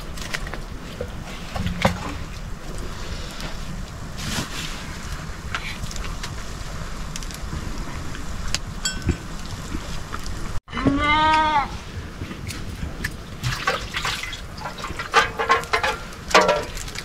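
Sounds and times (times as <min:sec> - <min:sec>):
wind rumble on microphone: 0:00.0 - 0:11.0, 0:11.6 - 0:17.0.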